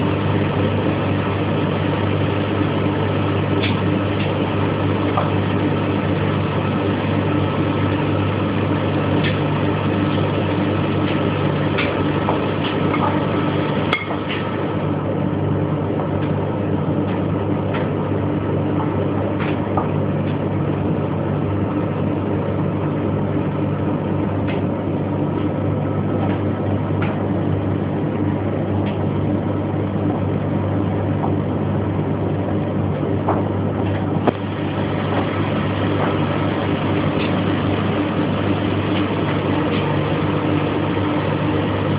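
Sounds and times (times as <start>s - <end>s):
laundry machines humming: 0.0s - 41.9s.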